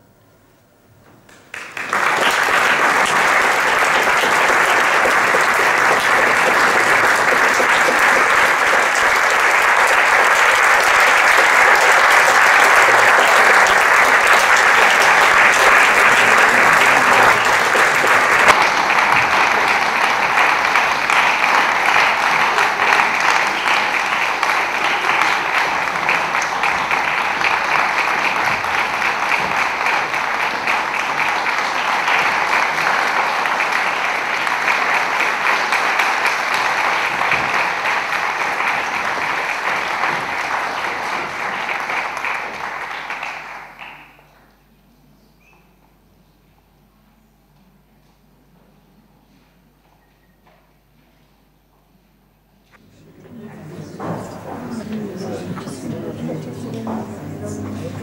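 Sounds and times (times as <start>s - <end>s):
audience applauding: 1.3s - 44.4s, 52.8s - 58.0s.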